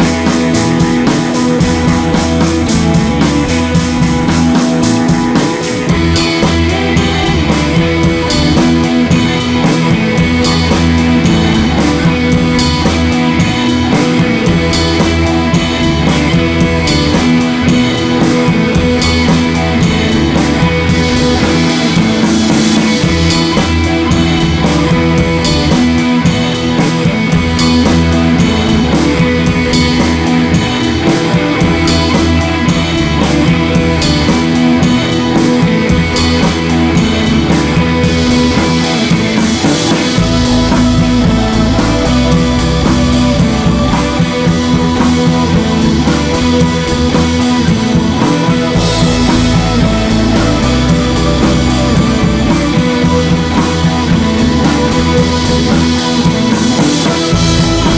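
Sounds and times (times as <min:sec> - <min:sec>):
rock music with guitar and drums: 0:00.0 - 0:57.9.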